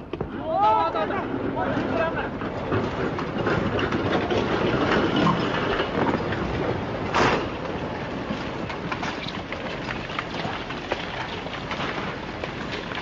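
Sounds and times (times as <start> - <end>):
landslide rumble: 0.1 - 13.0.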